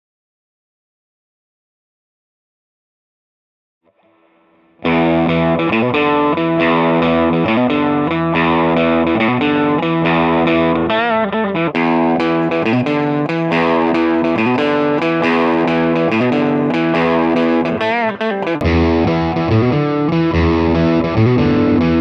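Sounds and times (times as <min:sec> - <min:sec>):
overdriven electric guitar: 0:03.9 - 0:22.0.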